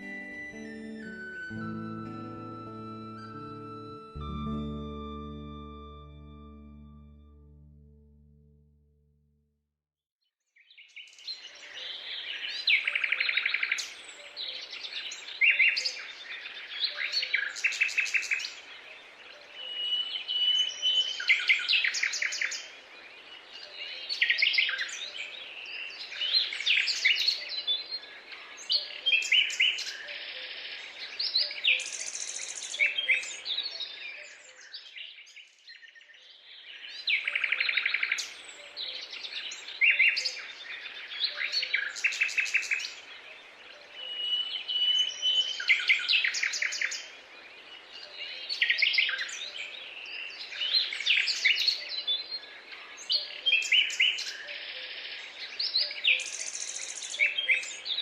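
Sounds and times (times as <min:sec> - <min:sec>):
songbirds singing: 0:10.8 - 0:58.0.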